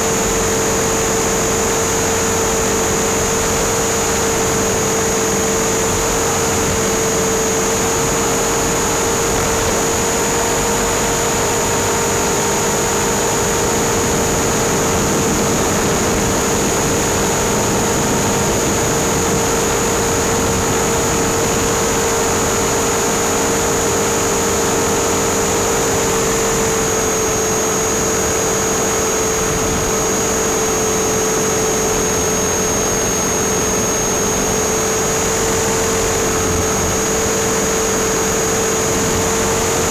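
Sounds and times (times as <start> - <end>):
model helicopter motor whine: 0.0 - 39.9.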